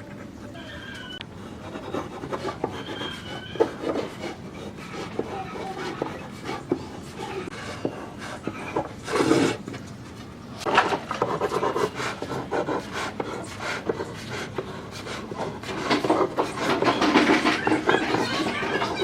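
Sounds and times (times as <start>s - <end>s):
hand tool rasping wood: 1.5s - 9.6s, 10.6s - 19.0s.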